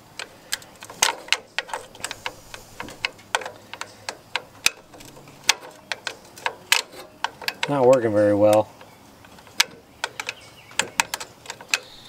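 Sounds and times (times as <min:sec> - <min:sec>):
wrench clicking on a bolt: 0:00.1 - 0:12.0.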